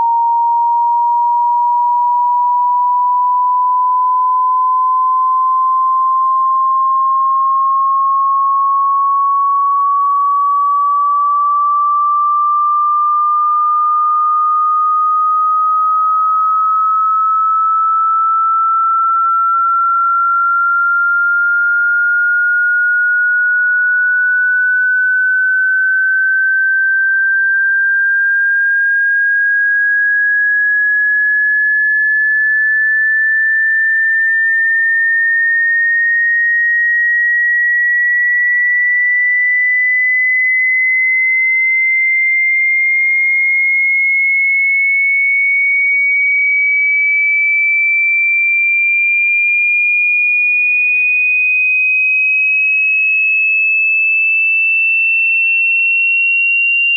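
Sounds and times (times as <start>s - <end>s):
rising sine-wave test tone: 0.0s - 56.9s.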